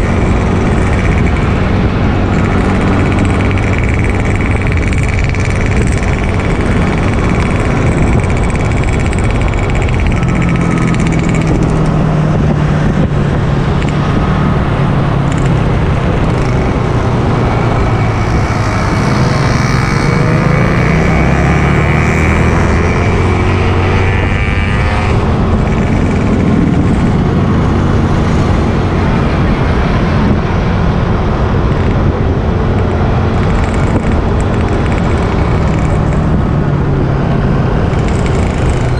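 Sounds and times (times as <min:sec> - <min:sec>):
motorcycle engine hum: 0:00.0 - 0:38.9
rushing road noise: 0:00.0 - 0:38.9.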